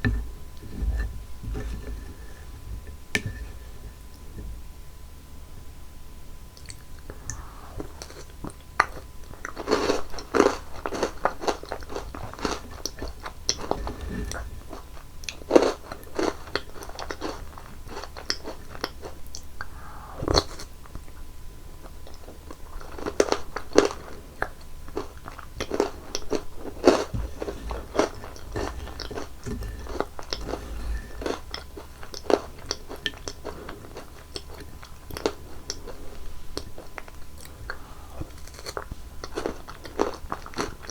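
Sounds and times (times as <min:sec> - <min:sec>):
chewing crunchy candies: 0:06.6 - 0:21.2, 0:21.8 - 0:40.9.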